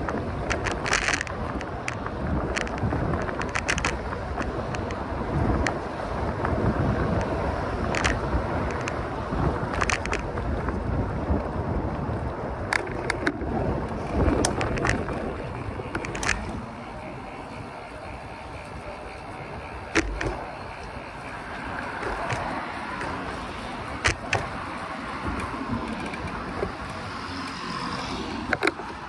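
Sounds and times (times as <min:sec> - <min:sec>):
sharp clicks and knocks: 0:00.0 - 0:05.8, 0:06.4 - 0:09.0, 0:09.6 - 0:10.8, 0:12.6 - 0:29.0
bicycle tyre and wind noise: 0:00.0 - 0:29.0.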